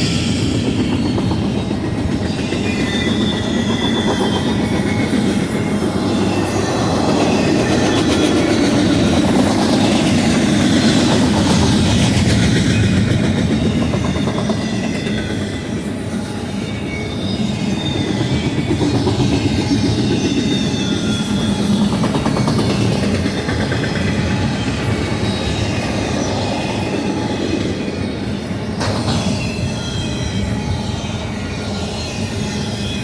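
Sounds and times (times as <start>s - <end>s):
faint high wheel squeals: 0.0s - 33.0s
freight train wheels clacking: 0.0s - 33.0s.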